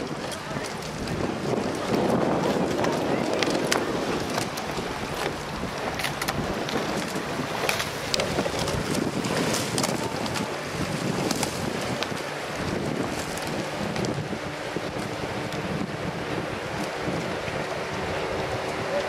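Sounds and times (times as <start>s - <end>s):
water noise: 0.0s - 19.0s
wind buffeting microphone: 0.0s - 19.0s.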